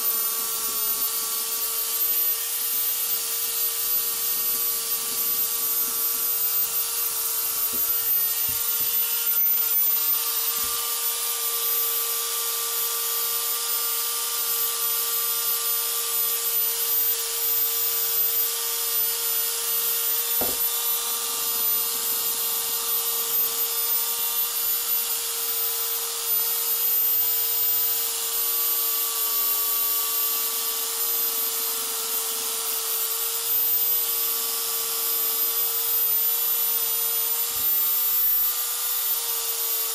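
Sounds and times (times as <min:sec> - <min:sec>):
sander motor whine: 0:00.0 - 0:39.9.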